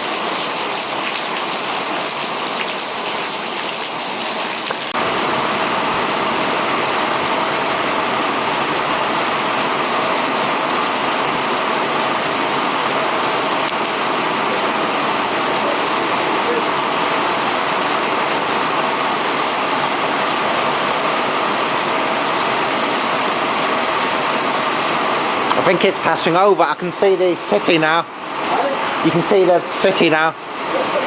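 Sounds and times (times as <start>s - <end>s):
torrential rain pouring: 0.0s - 31.0s.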